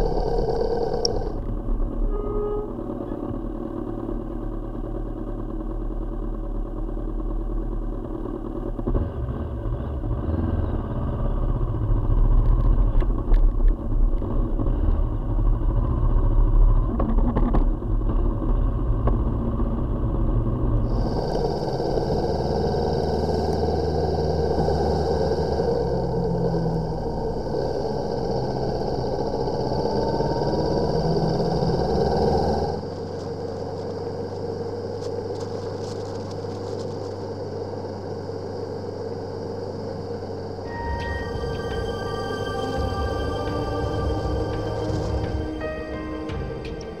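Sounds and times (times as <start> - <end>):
motorcycle engine running: 0.0 - 47.0
road noise: 0.0 - 47.0.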